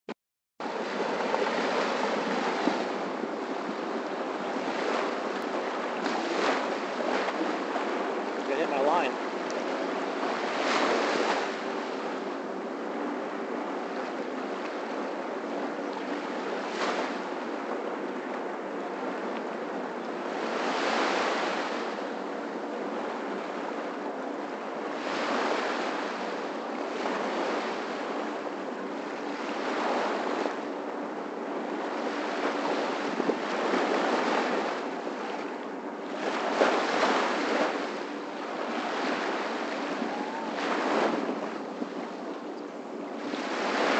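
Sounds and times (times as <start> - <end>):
waves washing on sandy beach: 0.6 - 43.9.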